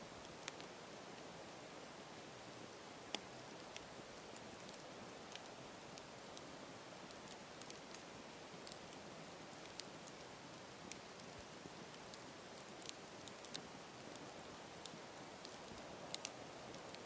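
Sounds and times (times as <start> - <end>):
campfire crackling and popping: 0.2 - 17.0.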